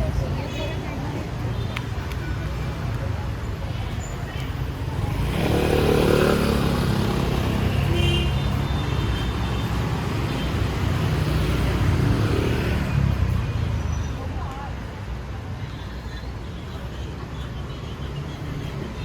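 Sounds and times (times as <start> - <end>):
traffic passing rumble: 0.0 - 19.0.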